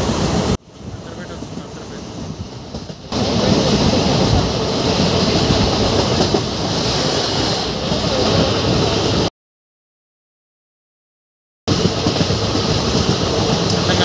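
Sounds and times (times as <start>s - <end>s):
train wheels on rail: 0.0s - 9.3s, 11.7s - 14.0s.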